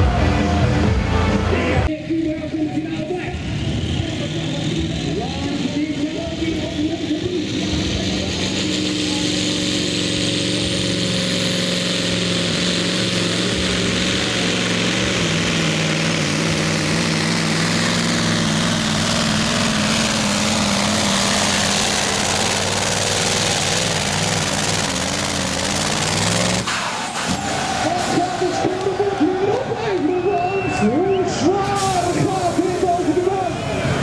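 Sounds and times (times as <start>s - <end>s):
diesel engine under heavy load: 0.0s - 34.0s.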